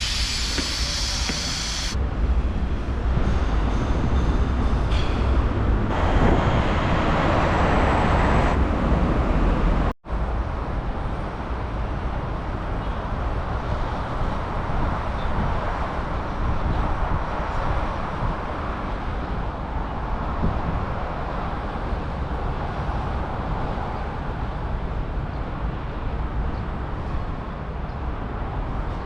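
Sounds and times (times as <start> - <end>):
traffic rumble: 0.0 - 29.0.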